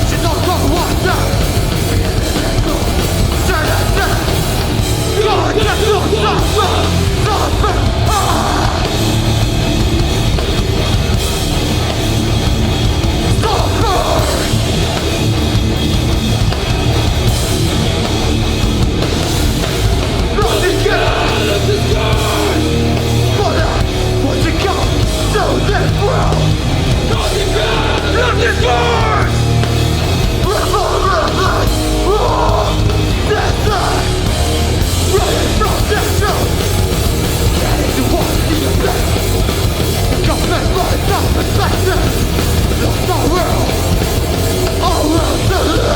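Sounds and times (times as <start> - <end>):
hardcore band playing live: 0.0 - 45.9.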